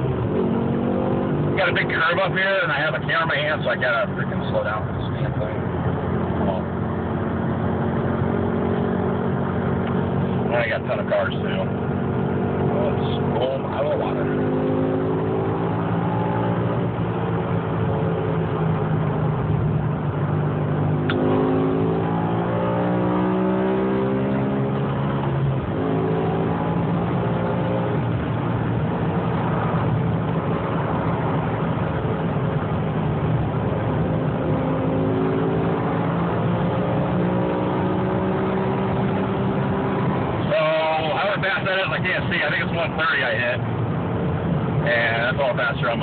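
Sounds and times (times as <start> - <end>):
car engine accelerating hard: 0.0 - 46.0
wind and road noise: 0.0 - 46.0.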